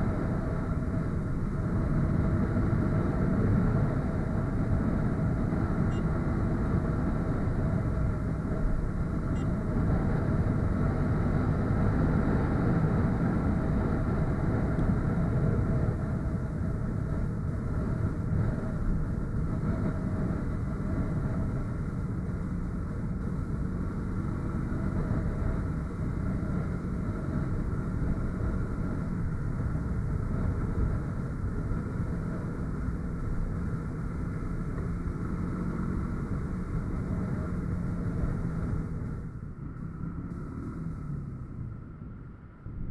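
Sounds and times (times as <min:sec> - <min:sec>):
motorcycle engine running: 0:00.0 - 0:42.9
wind and road noise: 0:00.0 - 0:42.9.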